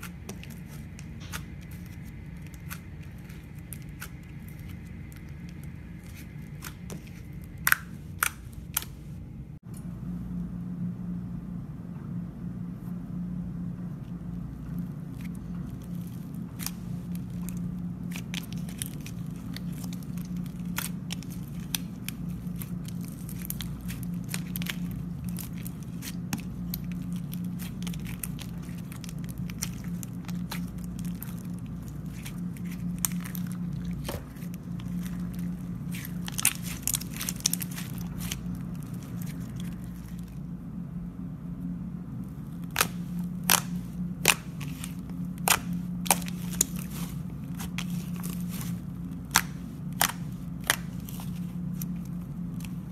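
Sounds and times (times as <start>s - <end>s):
slime crackling and popping: 0.0s - 9.0s, 15.1s - 40.4s, 42.3s - 52.9s
steady low hum: 0.0s - 52.9s.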